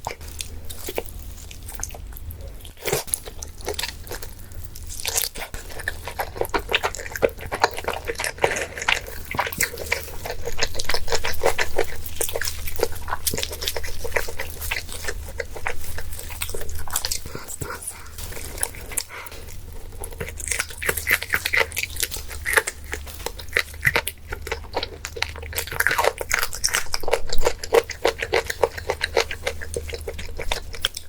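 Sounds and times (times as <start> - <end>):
dog chewing and crunching: 0.0 - 31.0.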